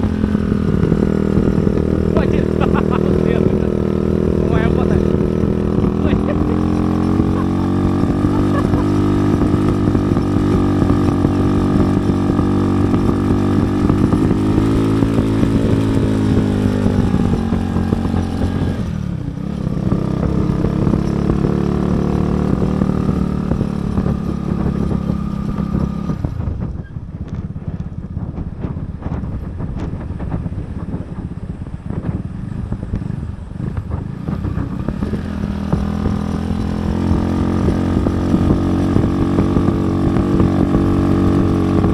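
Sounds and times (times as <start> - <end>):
motorcycle engine under load: 0.0 - 41.9.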